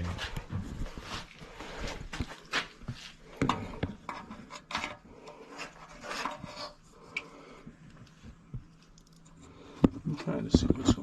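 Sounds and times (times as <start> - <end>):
rubbing and scraping handling noises: 0.0 - 11.0.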